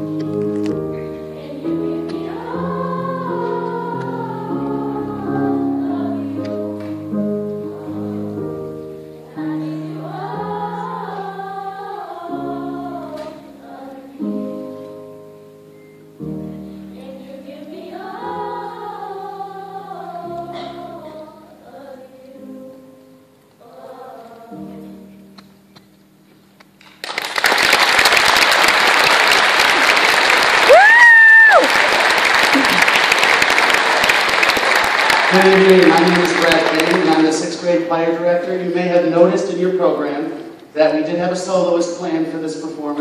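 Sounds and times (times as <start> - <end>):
children's choir singing: 0.0 - 15.2, 16.2 - 25.4, 31.7 - 43.0.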